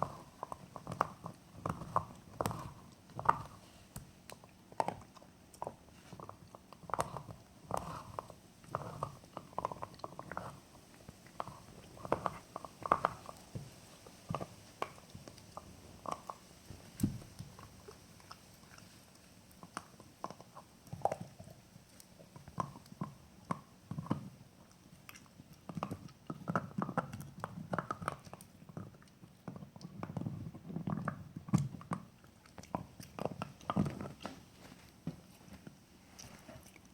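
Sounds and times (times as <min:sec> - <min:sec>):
dog gnawing on a bone: 0:00.0 - 0:36.9.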